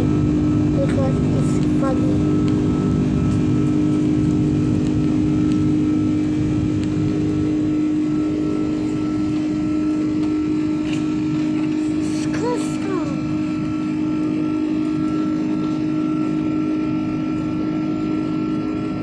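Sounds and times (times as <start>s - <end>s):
aircraft engines and rushing air: 0.0s - 19.0s
constant low hum: 0.0s - 19.0s.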